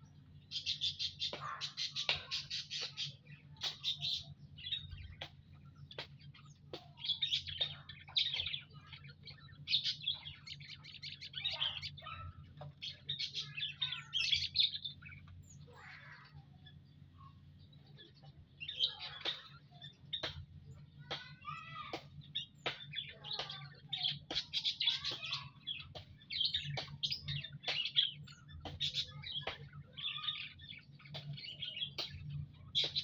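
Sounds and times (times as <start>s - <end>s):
birds chirping: 0.0s - 33.0s
steady low hum: 0.0s - 33.0s.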